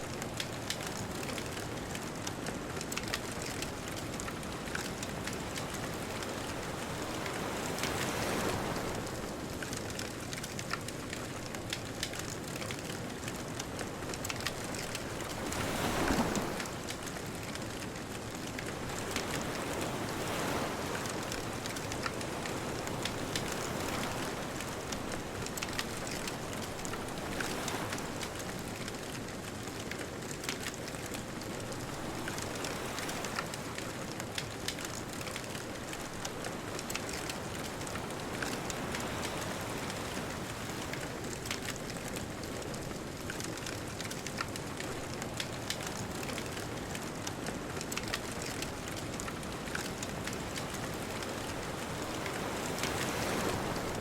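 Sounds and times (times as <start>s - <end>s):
distant ocean waves: 0.0s - 54.0s
bonfire crackling and popping: 0.1s - 8.2s, 9.0s - 54.0s.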